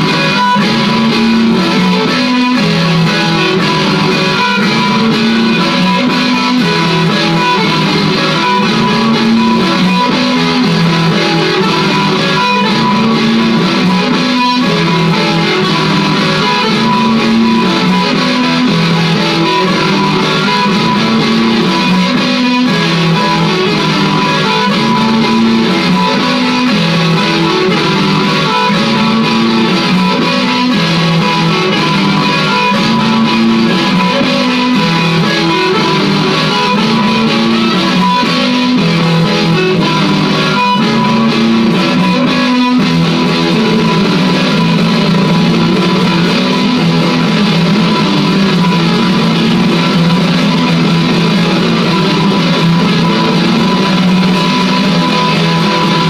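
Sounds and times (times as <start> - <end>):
looped electric guitar phrases: 0.0 - 56.0.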